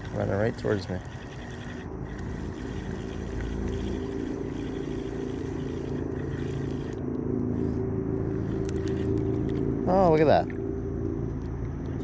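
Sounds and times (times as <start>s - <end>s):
motor engine droning: 0.0s - 12.0s.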